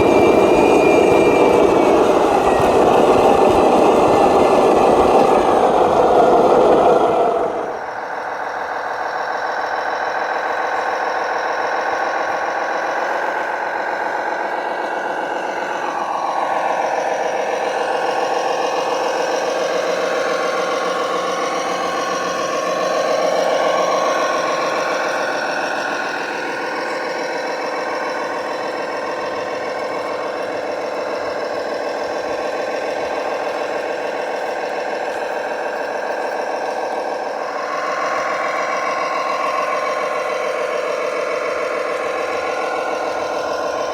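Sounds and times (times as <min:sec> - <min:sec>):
rc truck engine running: 0:00.0 - 0:43.9.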